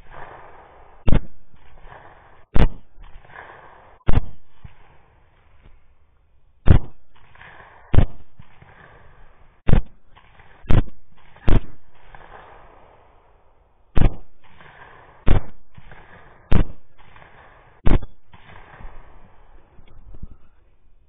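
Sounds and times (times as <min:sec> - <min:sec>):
rifle shots: 0:00.0 - 0:05.6, 0:06.6 - 0:19.7.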